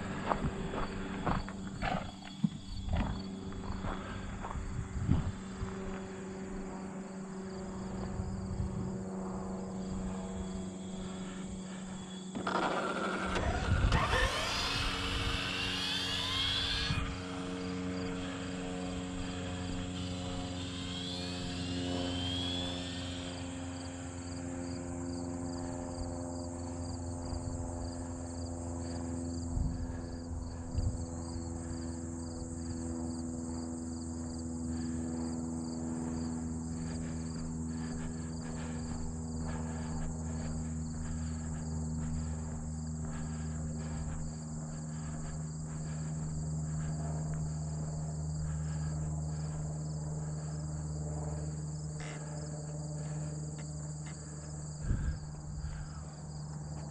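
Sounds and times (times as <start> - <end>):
crickets chirping: 0.0 - 56.9
low mechanical hum: 0.0 - 56.9.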